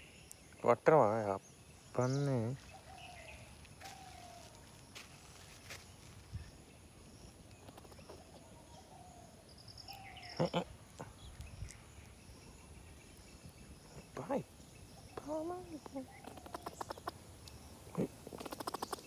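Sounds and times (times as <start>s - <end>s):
faint outdoor ambience: 0.0s - 19.0s
birds whistling calls: 1.3s - 4.6s, 6.3s - 19.0s.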